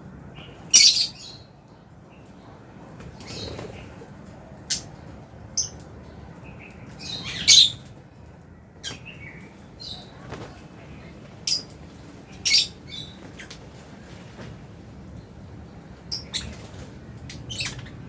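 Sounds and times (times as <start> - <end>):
soft bird chatter: 0.1 - 18.0.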